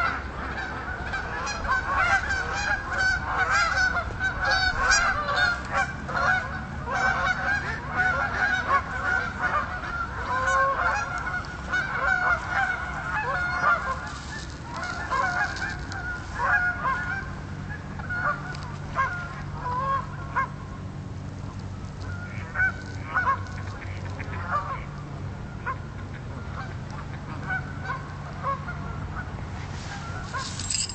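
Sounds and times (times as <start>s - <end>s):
geese honking: 0.0s - 20.6s, 22.0s - 25.0s, 25.6s - 30.6s
low steady rumble: 0.0s - 30.9s.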